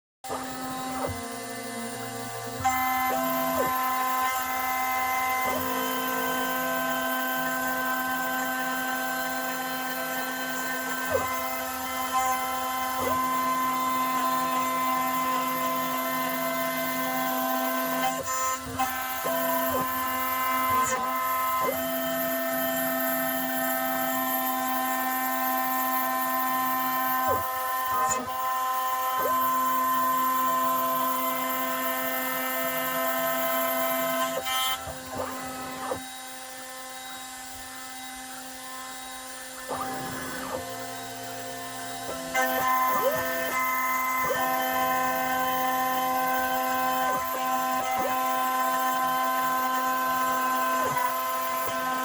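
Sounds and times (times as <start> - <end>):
small electric motor whining: 0.2 - 52.0.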